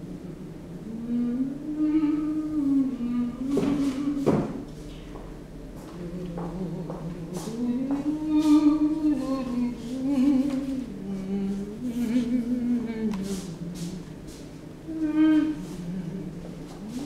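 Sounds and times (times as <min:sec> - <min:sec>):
person humming: 0:00.0 - 0:04.6, 0:05.9 - 0:14.2, 0:14.8 - 0:17.0.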